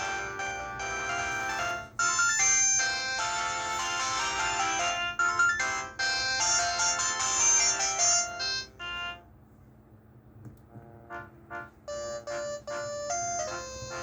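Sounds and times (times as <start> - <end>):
phone ringtone beeping melody: 0.0 - 9.2, 11.9 - 14.0.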